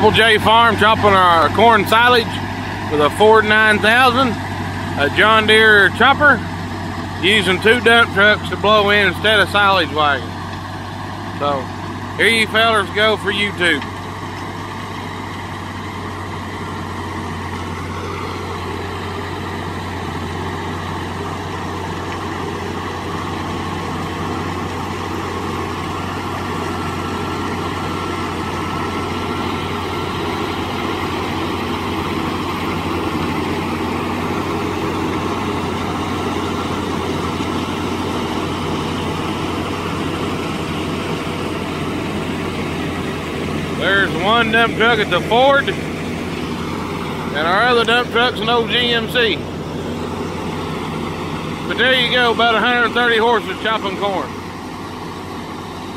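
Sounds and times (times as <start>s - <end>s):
forage chopper cutting corn: 0.0s - 55.9s
tractor diesel engine droning: 0.0s - 55.9s.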